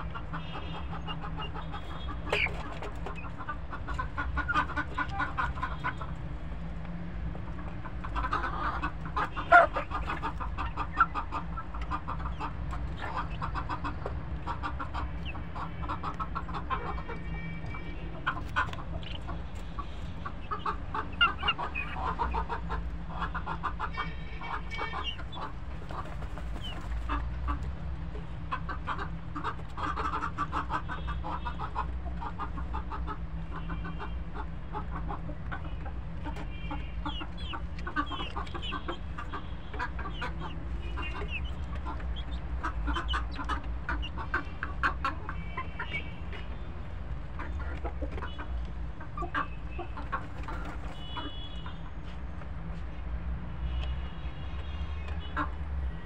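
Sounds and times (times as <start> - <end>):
hens and rooster clucking: 0.0 - 56.0.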